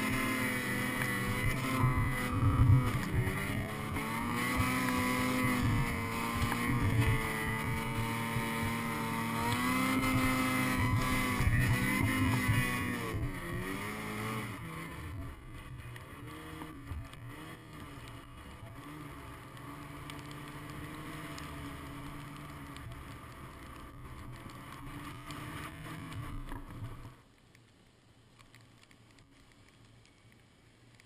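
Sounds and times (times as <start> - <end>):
snowmobile engine revving: 0.0 - 27.2.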